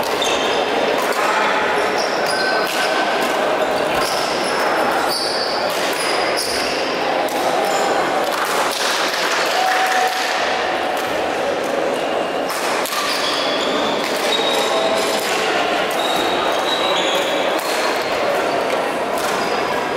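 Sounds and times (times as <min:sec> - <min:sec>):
echoing voices in hall: 0:00.0 - 0:19.9.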